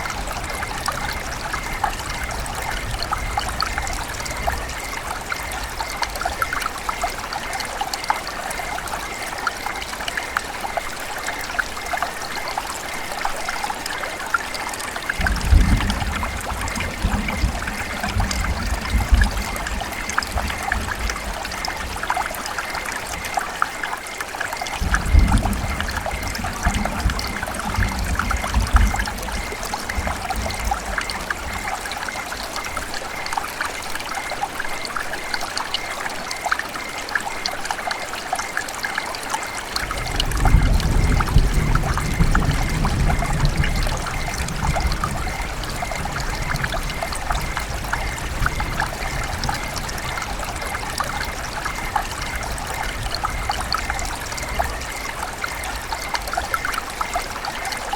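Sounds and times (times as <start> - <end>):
river water trickling and splashing: 0.0 - 57.9.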